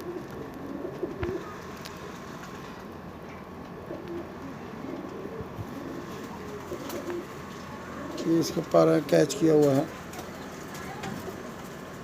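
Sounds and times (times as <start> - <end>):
pigeons cooing: 0.0 - 2.6, 3.4 - 12.0.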